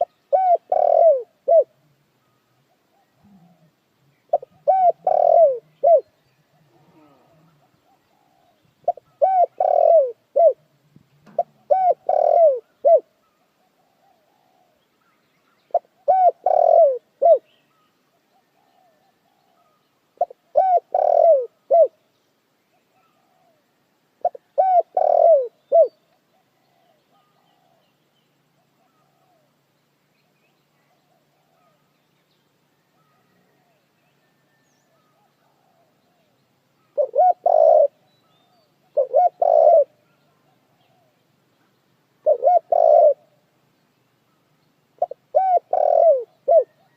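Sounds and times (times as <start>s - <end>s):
dove cooing: 0.0s - 2.0s, 2.6s - 14.8s, 15.7s - 22.0s, 22.9s - 23.6s, 24.2s - 27.9s, 28.6s - 29.6s, 30.8s - 31.9s, 33.0s - 41.2s, 42.2s - 43.4s, 45.0s - 46.9s.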